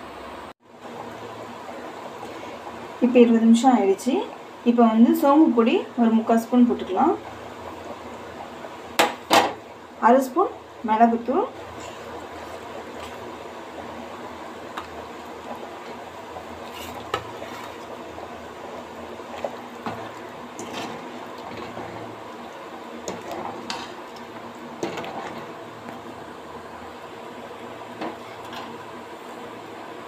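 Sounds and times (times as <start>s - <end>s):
curry bubbling in a pot: 0.6s - 30.0s.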